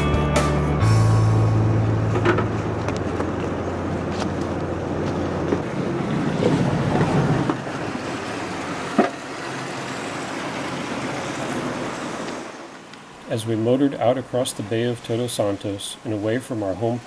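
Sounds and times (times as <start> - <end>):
water rushing along hull: 1.8 - 17.0.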